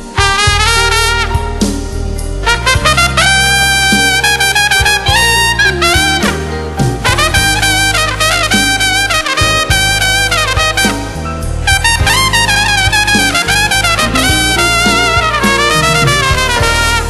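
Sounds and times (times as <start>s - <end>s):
drum hits: 0.0s - 17.0s
low bass: 0.0s - 17.0s
trumpet solo with vibrato: 0.0s - 17.0s.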